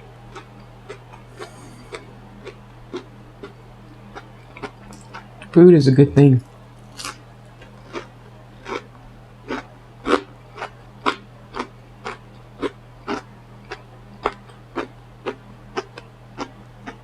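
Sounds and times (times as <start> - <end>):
person chewing food: 0.3 - 5.6, 6.8 - 17.0.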